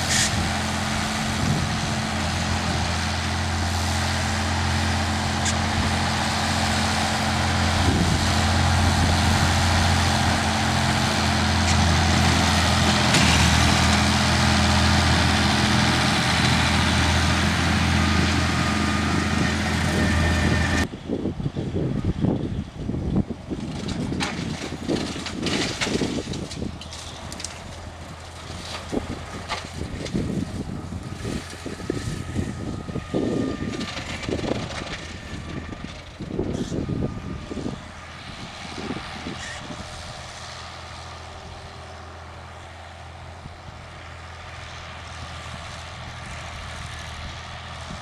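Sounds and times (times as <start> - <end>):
mower cutting brush: 0.0 - 20.9, 24.6 - 48.0
tractor engine running: 0.0 - 48.0.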